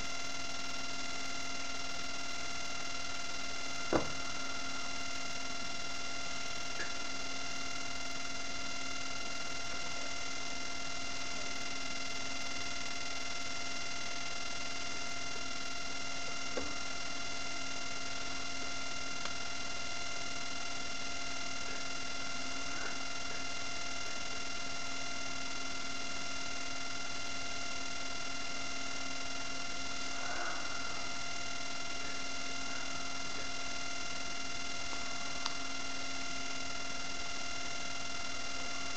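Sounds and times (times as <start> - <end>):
electrical hum with whining tones: 0.0 - 38.9.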